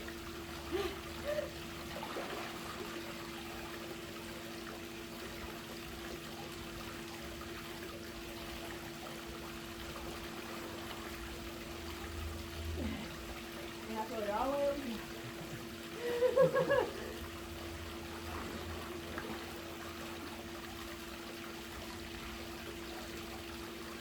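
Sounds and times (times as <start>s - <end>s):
pool water trickling and splashing: 0.0s - 24.0s.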